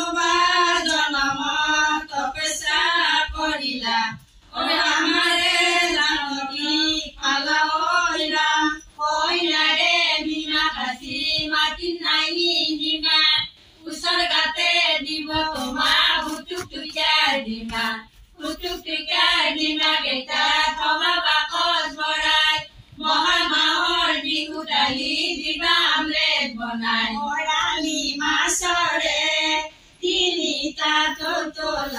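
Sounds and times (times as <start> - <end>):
women singing: 0.0 - 31.9.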